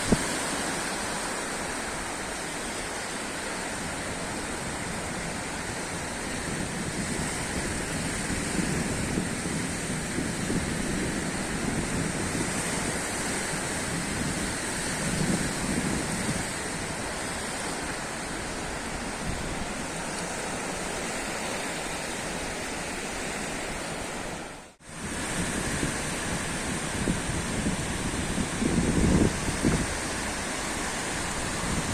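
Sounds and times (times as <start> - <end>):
sea surf washing in: 0.0 - 31.9.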